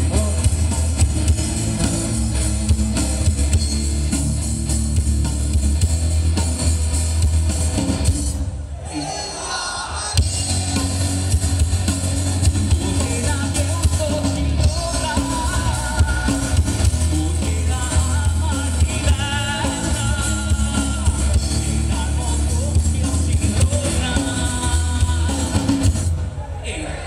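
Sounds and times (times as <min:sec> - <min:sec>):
male lead singer: 0:00.0 - 0:03.8, 0:08.8 - 0:27.0
live rock band playing: 0:00.0 - 0:08.7, 0:09.4 - 0:26.4.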